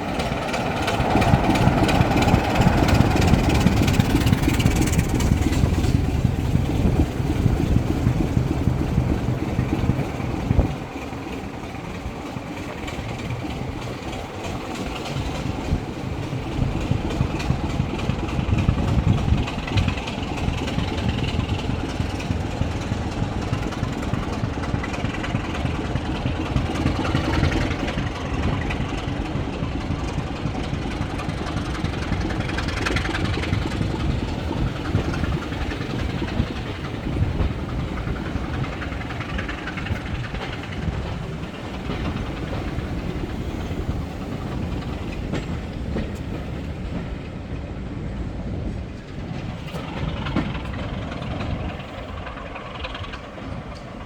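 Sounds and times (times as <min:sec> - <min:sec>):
diesel train engine: 0:00.0 - 0:54.0
train wheels on rails: 0:00.0 - 0:54.0.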